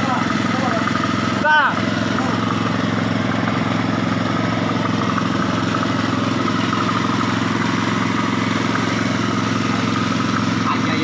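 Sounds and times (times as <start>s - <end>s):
faint engine whine: 0.0s - 11.0s
small engine running: 0.0s - 11.0s.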